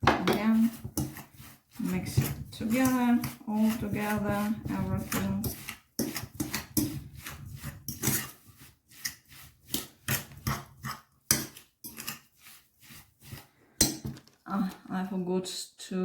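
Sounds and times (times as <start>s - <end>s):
utensil scraping thick mixture: 0.0s - 14.8s.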